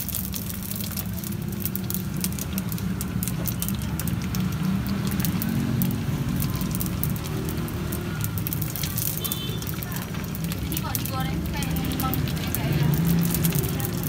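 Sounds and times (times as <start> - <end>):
deep-frying sizzle with pops: 0.0 - 14.0.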